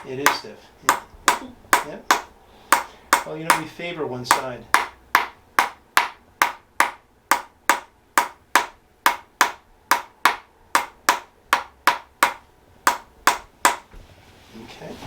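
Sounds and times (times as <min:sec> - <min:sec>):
wooden hammer tapping wooden wedge: 0:00.0 - 0:14.0.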